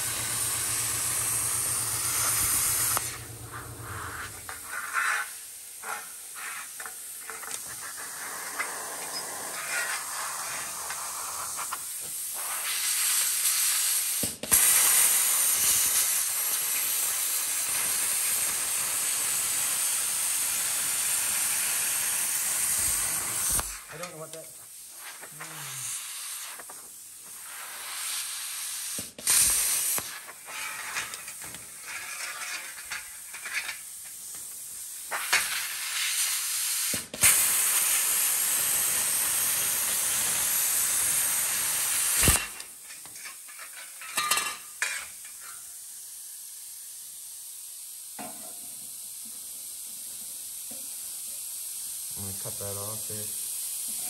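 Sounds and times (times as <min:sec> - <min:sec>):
plasma cutter hissing: 0:00.0 - 0:43.5, 0:44.2 - 0:54.0.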